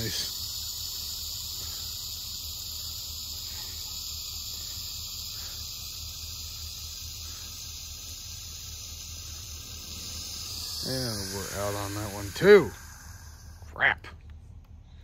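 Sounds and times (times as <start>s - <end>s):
aerosol spray hissing: 0.0s - 13.8s.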